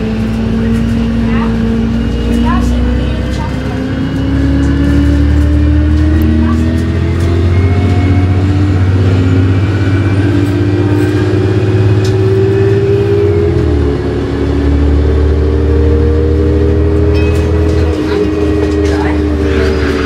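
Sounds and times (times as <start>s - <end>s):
bus engine accelerating: 0.0s - 20.0s.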